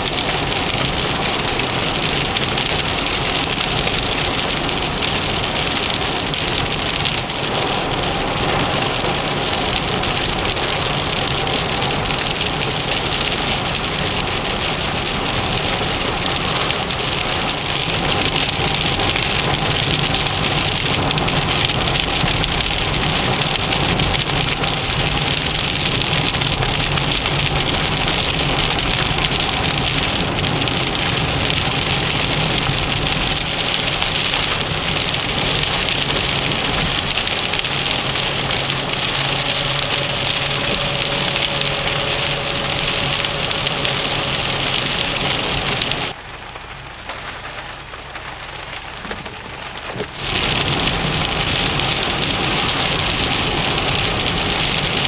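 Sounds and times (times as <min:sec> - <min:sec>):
heavy rain on moving car: 0:00.0 - 0:55.0
road noise: 0:00.0 - 0:55.0.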